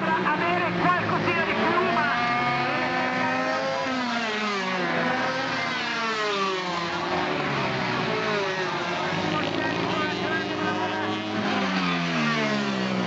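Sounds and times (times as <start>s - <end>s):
two-stroke engines whining past: 1.4s - 13.0s.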